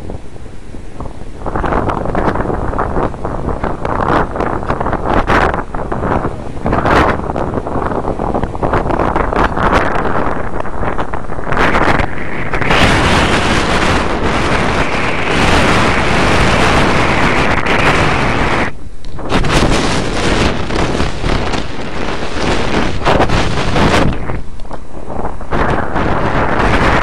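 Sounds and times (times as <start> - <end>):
wind roaring over microphone: 0.0 - 27.0.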